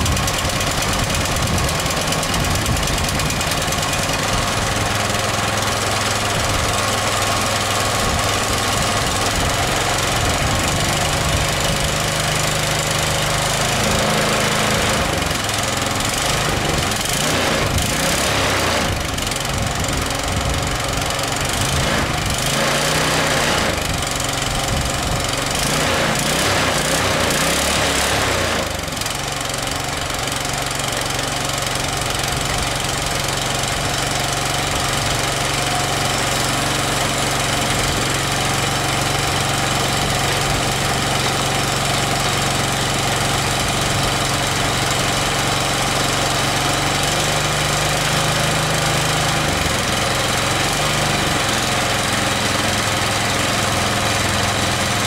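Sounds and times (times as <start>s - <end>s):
clatter: 0.0s - 55.0s
small engine running: 0.0s - 55.0s.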